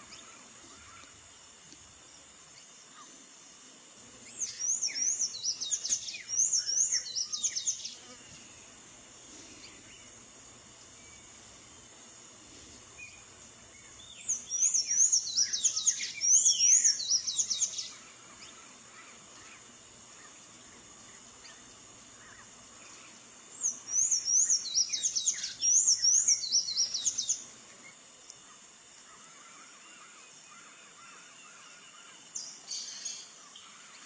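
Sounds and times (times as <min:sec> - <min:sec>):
steady high hiss: 0:00.0 - 0:34.0.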